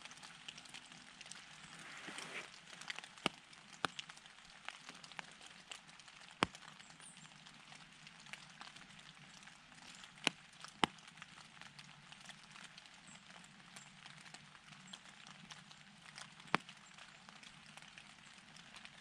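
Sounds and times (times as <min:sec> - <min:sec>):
rain and snow ticking on leaves: 0:00.0 - 0:19.0.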